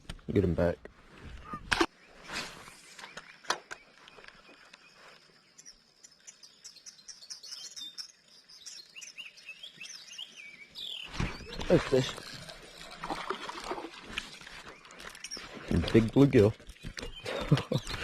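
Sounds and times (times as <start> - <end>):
small birds chirping: 1.2 - 18.0.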